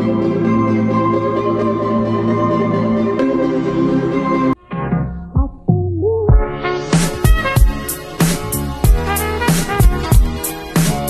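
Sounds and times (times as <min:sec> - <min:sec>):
slow held chords music: 0:00.0 - 0:11.0.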